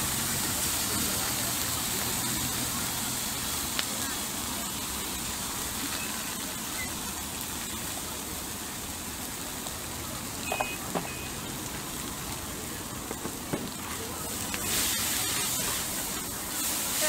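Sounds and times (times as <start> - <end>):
noodles sizzling on a griddle: 0.0 - 17.0.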